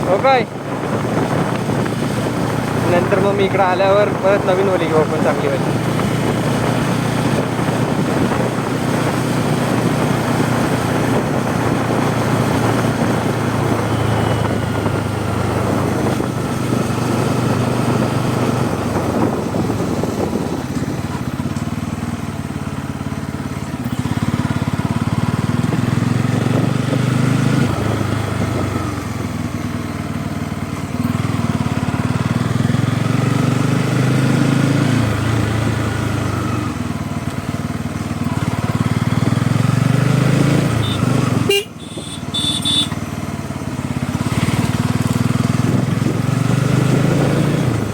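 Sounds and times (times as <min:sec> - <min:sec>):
motorcycle engine and exhaust: 0:00.0 - 0:47.9.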